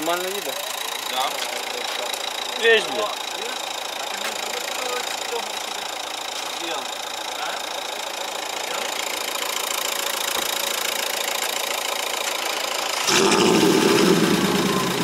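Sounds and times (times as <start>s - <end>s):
car engine idling: 0.0s - 15.0s
louder deeper engine: 0.0s - 15.0s.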